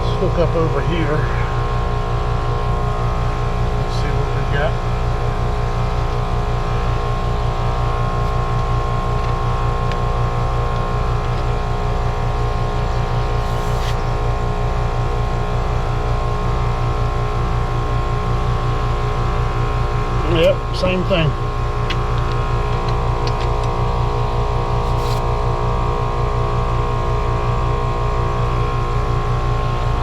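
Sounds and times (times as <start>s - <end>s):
heat pump compressor and fan hum: 0.0s - 30.0s.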